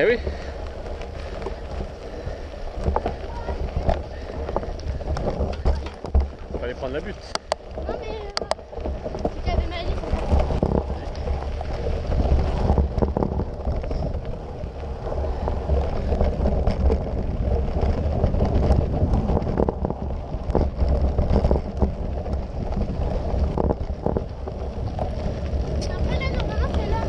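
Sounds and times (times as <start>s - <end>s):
bike knocks and rattles: 0.0s - 27.0s
bike rolling on dirt trail: 0.0s - 27.0s
wind buffeting microphone: 0.0s - 27.0s.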